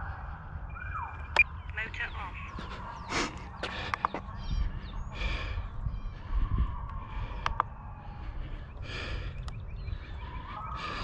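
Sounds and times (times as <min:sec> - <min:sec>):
birds chirping: 0:00.0 - 0:11.0
low rumble on microphone: 0:00.0 - 0:11.0.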